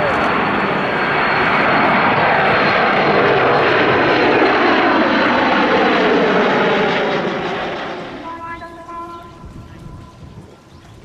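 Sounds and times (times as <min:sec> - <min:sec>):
jet engines at high power: 0:00.0 - 0:11.0.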